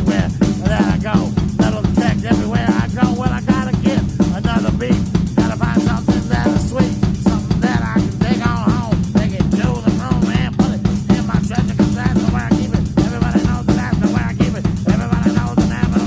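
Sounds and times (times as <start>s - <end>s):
background music with drum kit: 0.0s - 16.0s.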